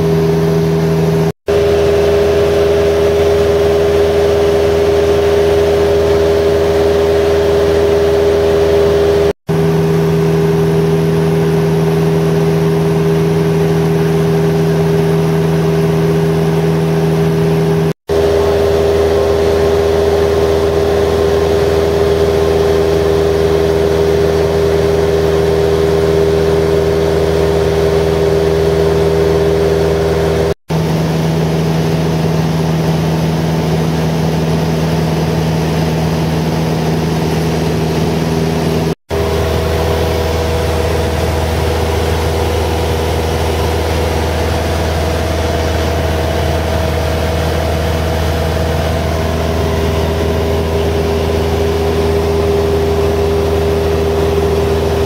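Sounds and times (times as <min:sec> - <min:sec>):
small plane engine and propeller: 0:00.0 - 0:55.0.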